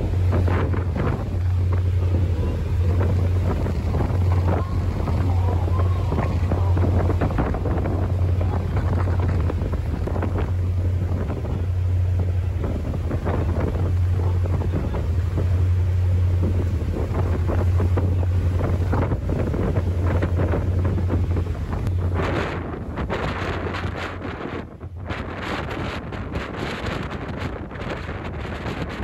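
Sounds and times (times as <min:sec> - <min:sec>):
ferry engine drone: 0:00.0 - 0:29.0
wind buffeting microphone: 0:00.0 - 0:29.0.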